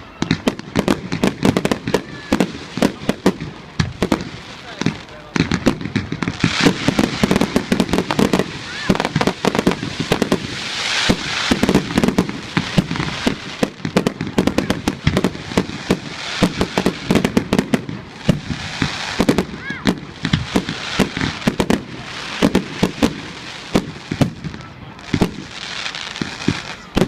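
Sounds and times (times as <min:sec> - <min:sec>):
firework whistling: 0:00.0 - 0:27.0
fireworks bangs and crackling: 0:00.0 - 0:27.0.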